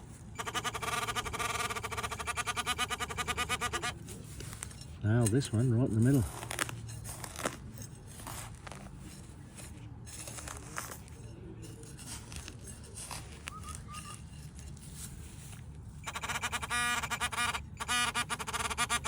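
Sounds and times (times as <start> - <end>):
metal detector chirps: 0.0 - 7.6, 11.1 - 19.0
soil and turf crunching: 0.0 - 16.8.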